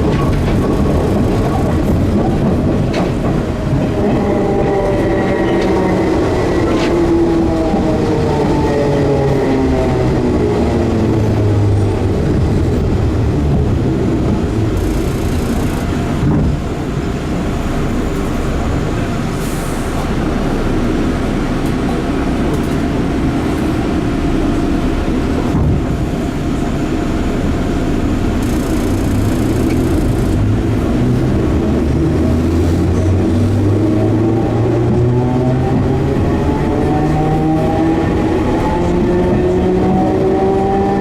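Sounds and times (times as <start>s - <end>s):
train rumbling on rails: 0.0s - 41.0s.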